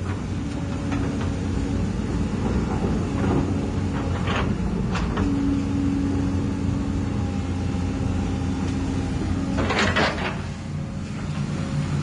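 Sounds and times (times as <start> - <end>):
low motor hum: 0.0 - 12.0
pump whine: 0.0 - 12.0.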